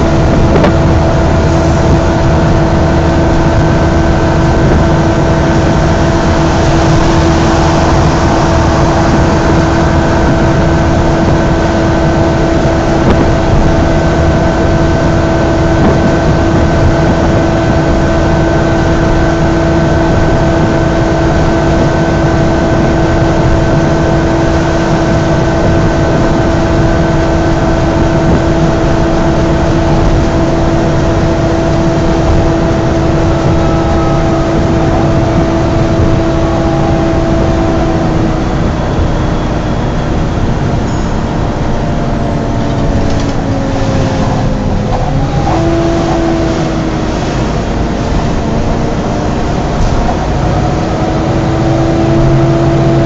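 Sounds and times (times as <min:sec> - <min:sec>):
bus cooling fan whining: 0:00.0 - 0:53.0
bus engine and road noise: 0:00.0 - 0:53.0.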